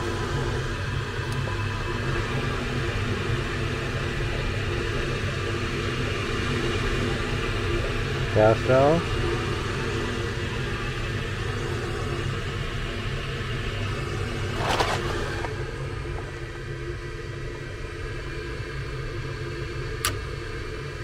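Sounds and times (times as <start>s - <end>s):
furnace motor humming: 0.0s - 21.0s.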